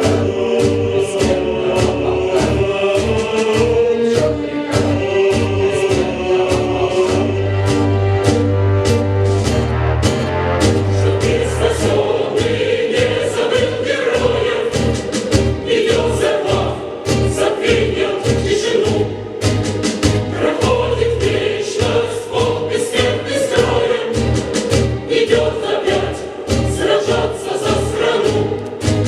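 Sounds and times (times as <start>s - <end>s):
choir singing over a beat: 0.0s - 29.0s.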